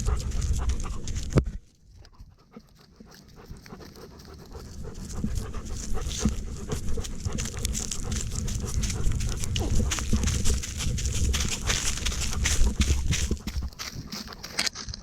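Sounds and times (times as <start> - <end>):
dog panting: 0.0 - 1.4, 2.0 - 14.7.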